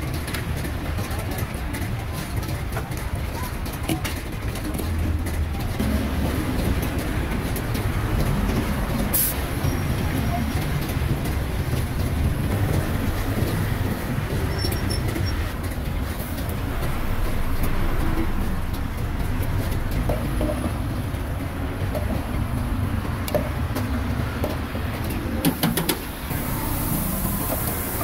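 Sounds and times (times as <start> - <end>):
low rumble of road traffic: 0.0 - 28.0.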